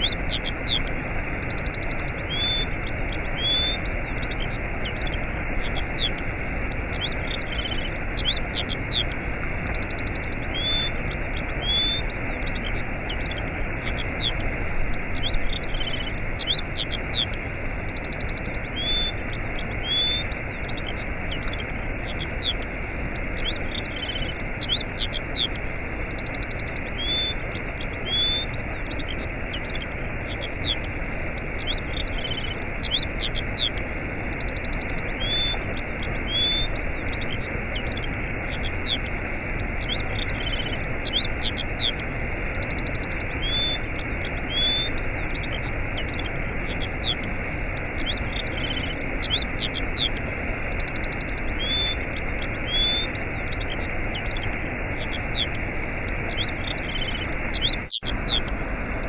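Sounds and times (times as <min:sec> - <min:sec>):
small birds chirping: 0:00.0 - 0:59.0
waterfall rushing: 0:00.0 - 0:59.0.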